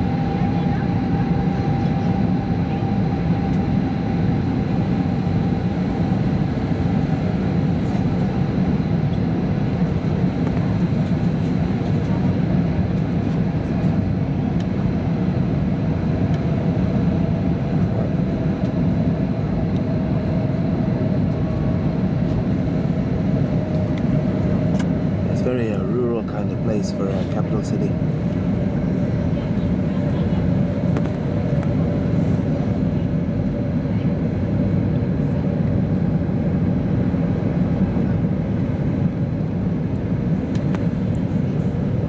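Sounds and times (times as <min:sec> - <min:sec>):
airplane cabin engine rush: 0:00.0 - 0:42.0
jet engine whine: 0:00.0 - 0:42.0.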